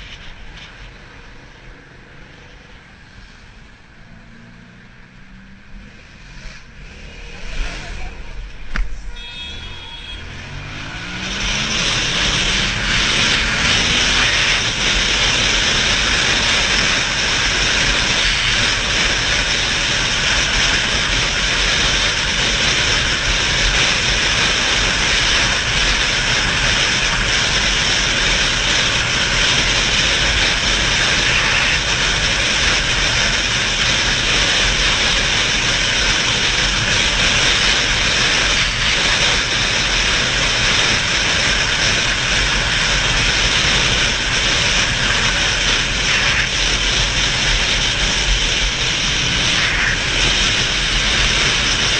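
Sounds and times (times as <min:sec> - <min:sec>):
motorcycle accelerating: 0:00.0 - 0:51.9
rush of wind: 0:00.0 - 0:51.9.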